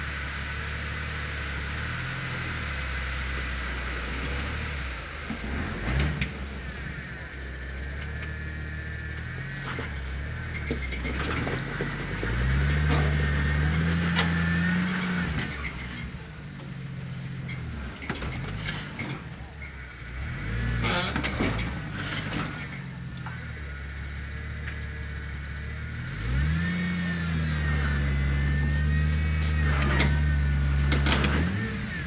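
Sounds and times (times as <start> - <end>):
motor engine running: 0.0 - 32.0.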